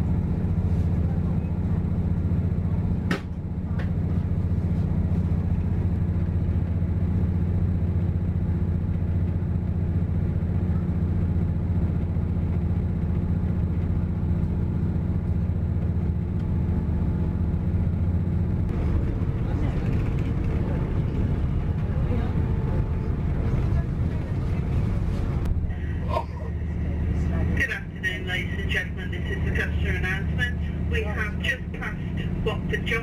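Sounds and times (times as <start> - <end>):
train rumble inside coach: 0.0 - 33.0.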